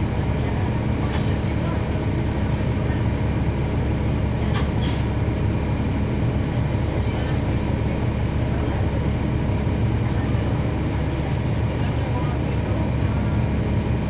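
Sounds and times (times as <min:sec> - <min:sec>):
bus diesel engine droning: 0:00.0 - 0:14.0.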